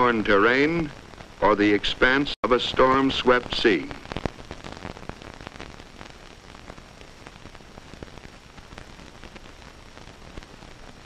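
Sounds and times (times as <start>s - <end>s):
faint high whine: 0.0s - 11.0s
film soundtrack hiss: 0.0s - 11.0s.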